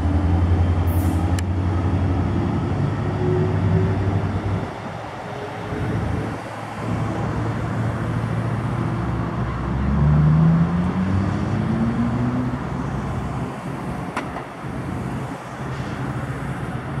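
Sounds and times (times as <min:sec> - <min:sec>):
diesel locomotive engine: 0:00.0 - 0:17.0.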